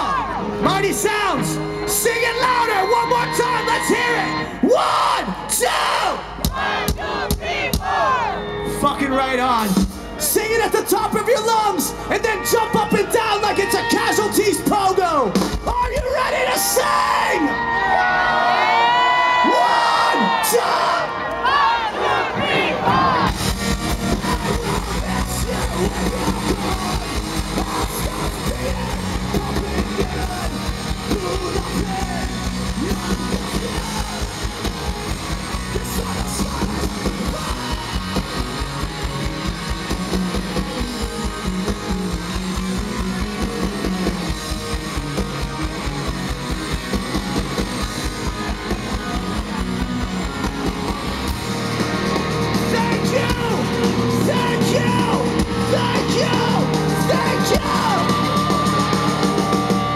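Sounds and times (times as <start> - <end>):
punk rock band playing live: 0.0 - 21.2, 22.3 - 59.9.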